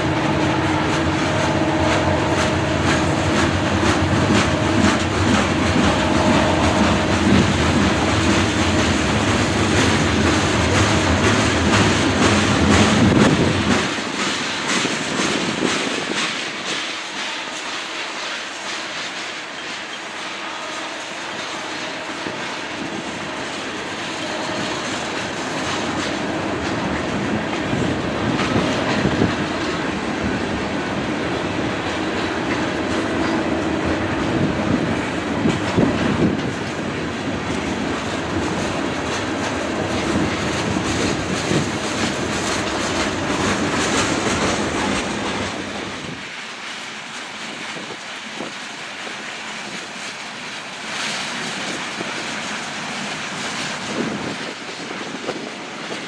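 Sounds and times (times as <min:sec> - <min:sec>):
freight train wheels clacking: 0:00.0 - 0:56.0.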